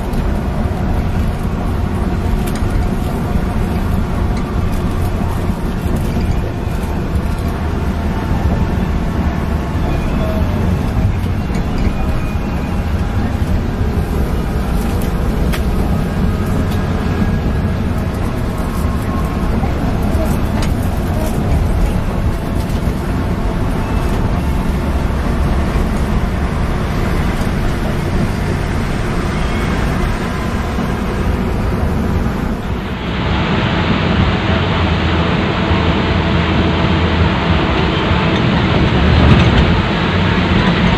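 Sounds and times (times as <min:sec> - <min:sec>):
bus engine drone: 0:00.0 - 0:40.9
tyres hissing on wet road: 0:00.0 - 0:40.9.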